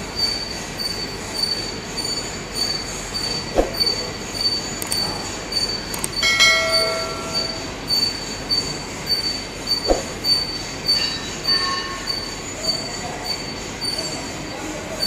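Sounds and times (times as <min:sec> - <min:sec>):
lathe running with squeal: 0:00.0 - 0:15.0
metallic ring: 0:00.2 - 0:14.3.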